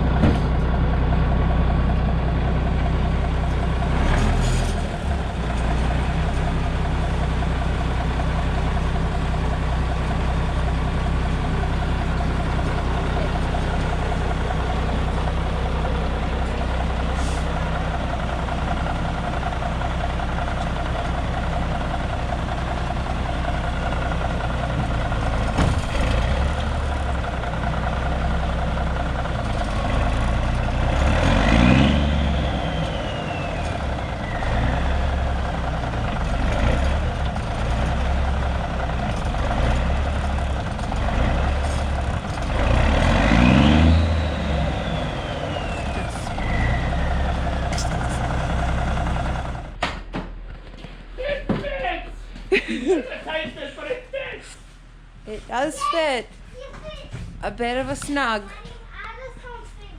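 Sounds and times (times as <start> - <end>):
diesel engine idling and revving: 0.0 - 50.5.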